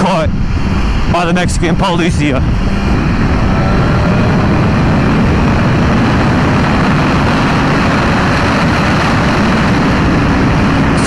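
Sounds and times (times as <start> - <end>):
wind rush: 0.0 - 11.0
motorcycle engine running hard: 2.1 - 11.0.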